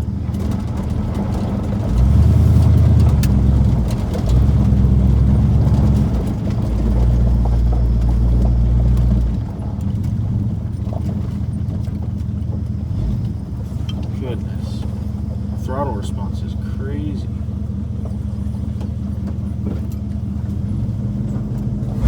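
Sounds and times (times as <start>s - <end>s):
truck engine pulling hard: 0.0s - 22.0s.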